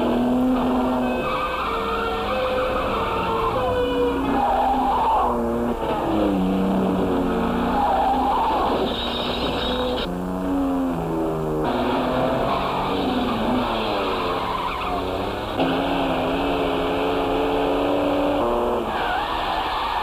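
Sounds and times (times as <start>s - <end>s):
car engines running hard: 0.0s - 20.0s
tyres squealing: 0.6s - 10.0s, 12.4s - 20.0s.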